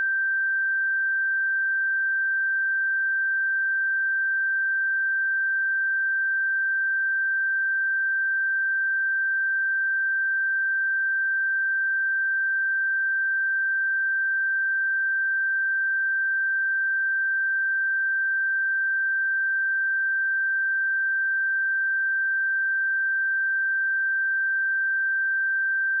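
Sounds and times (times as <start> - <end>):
sine wave test tone: 0.0 - 26.0.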